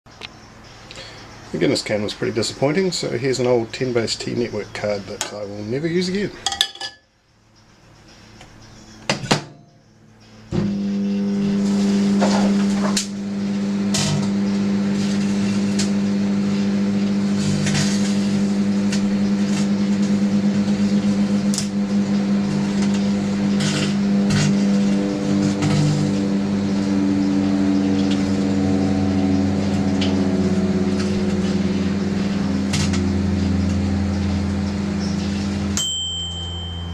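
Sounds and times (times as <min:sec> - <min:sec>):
microwave oven humming: 0:07.3 - 0:36.9.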